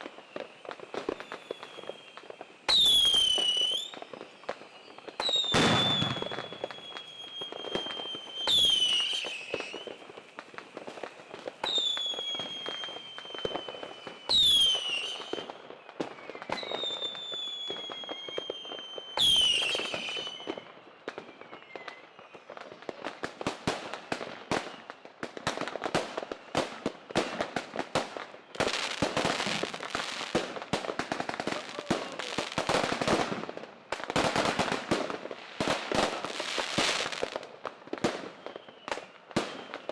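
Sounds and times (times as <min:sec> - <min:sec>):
firecrackers popping: 0:00.0 - 0:39.9
firework whistles sliding down: 0:00.0 - 0:39.9.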